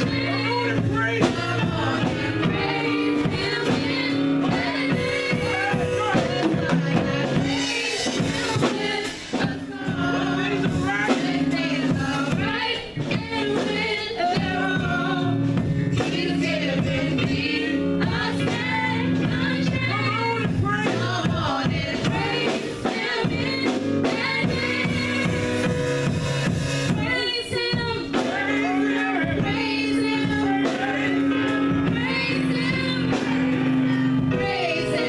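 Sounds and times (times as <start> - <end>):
band playing: 0.0 - 35.0
voices singing gospel: 0.0 - 35.0.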